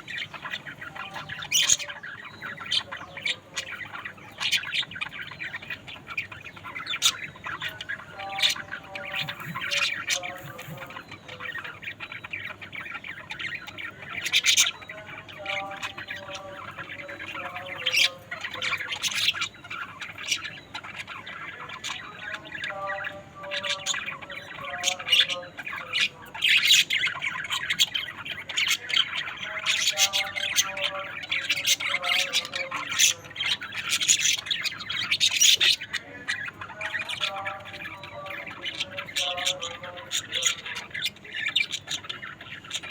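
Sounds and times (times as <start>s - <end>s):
budgerigars chirping and squawking: 0.0s - 42.9s.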